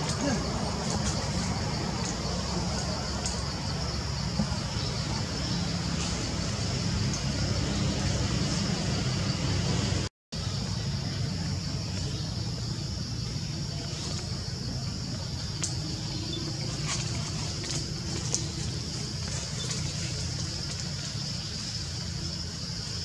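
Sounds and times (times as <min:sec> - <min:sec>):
constant high hiss: 0:00.0 - 0:23.0.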